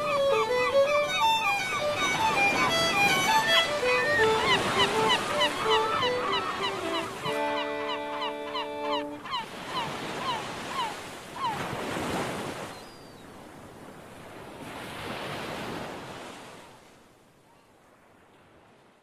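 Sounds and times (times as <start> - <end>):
waves washing onto shore: 0.0 - 17.1.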